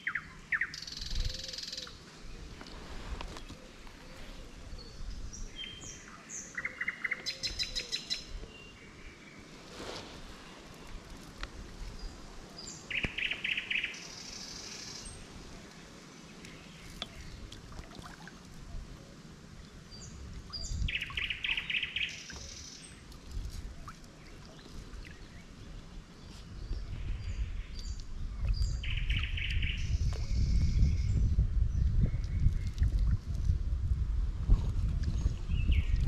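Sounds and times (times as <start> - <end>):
songbirds singing: 0.0 - 9.6, 10.4 - 33.2, 35.0 - 36.0.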